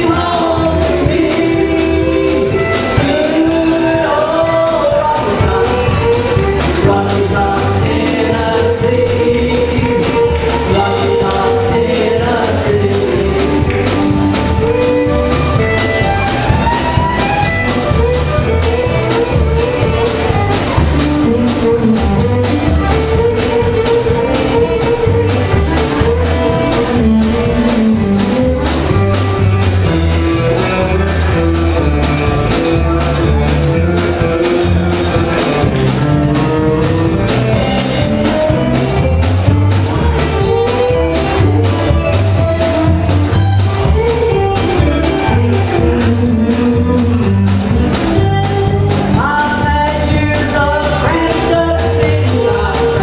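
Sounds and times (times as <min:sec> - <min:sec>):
bass guitar: 0:00.0 - 0:53.0
drum beat: 0:00.0 - 0:53.0
electric guitar: 0:00.0 - 0:53.0
fiddle: 0:00.0 - 0:53.0.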